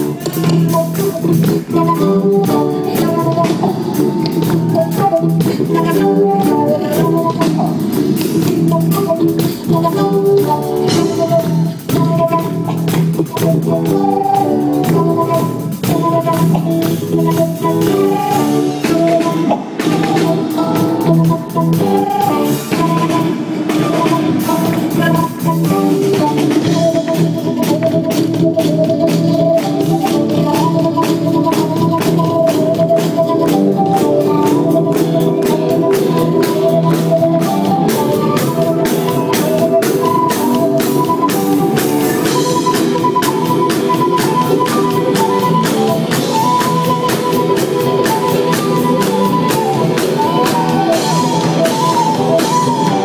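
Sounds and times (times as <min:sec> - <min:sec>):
drum kit beat: 0:00.0 - 0:53.0
live rock band playing: 0:00.0 - 0:53.0
sustained keyboard notes: 0:00.0 - 0:53.0.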